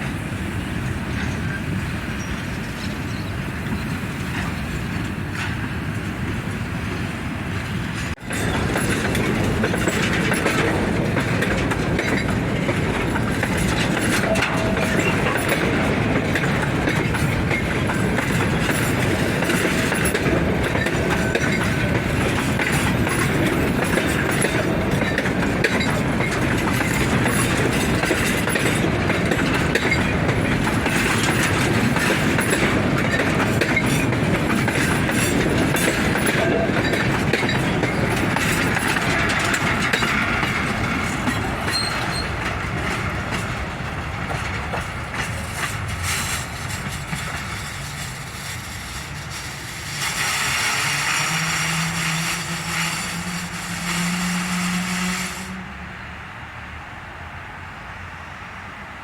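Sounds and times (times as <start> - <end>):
clickety-clack over rail joints: 0.0 - 55.6
train wheels rumbling on rails: 0.0 - 59.0.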